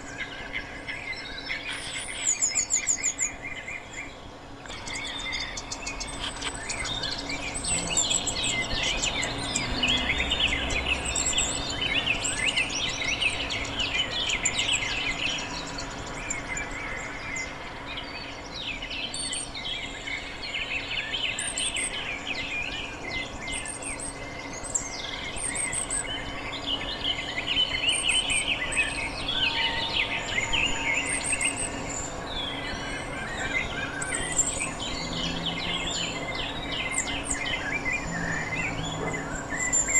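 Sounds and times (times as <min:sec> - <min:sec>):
birds chirping and twittering: 0:00.0 - 0:39.9
very high bird calls: 0:00.0 - 0:39.9.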